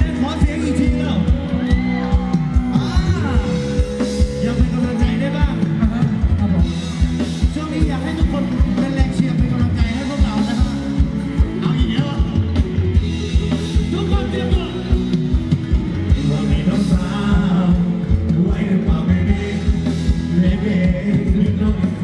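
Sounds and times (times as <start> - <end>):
person singing: 0.0 - 6.9, 7.6 - 22.0
live band playing dance music: 0.0 - 22.0
steady drum beat: 0.0 - 22.0.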